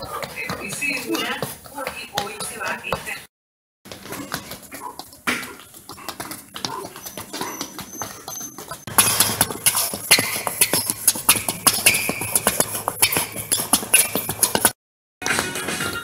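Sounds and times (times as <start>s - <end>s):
sneakers tapping hard floor: 0.0s - 3.3s, 3.9s - 16.0s.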